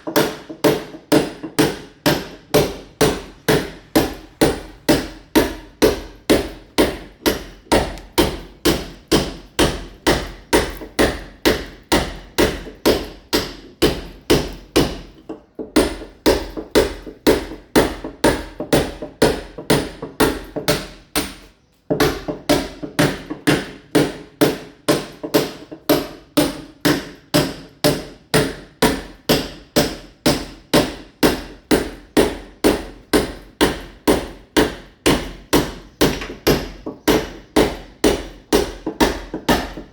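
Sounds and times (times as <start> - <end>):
hammer chipping masonry wall: 0.0 - 39.9.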